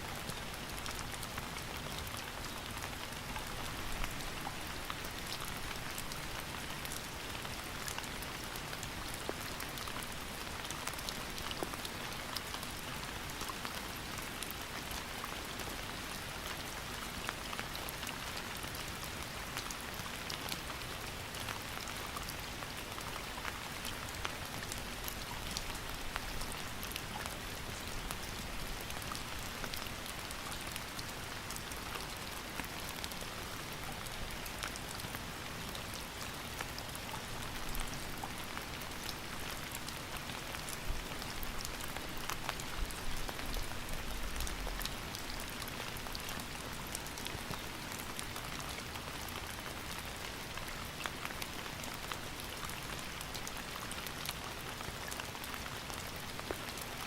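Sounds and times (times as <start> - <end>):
rain drops ticking on hard surface: 0.1 - 57.0.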